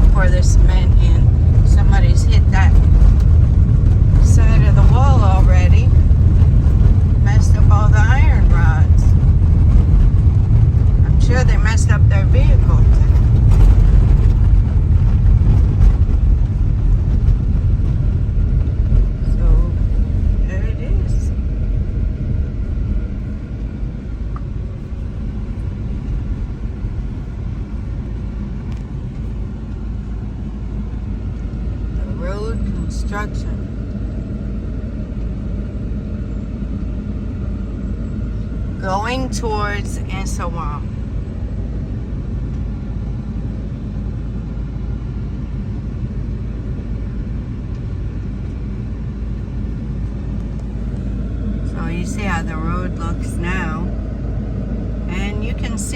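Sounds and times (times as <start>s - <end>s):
car engine and tyre noise: 0.0s - 55.9s.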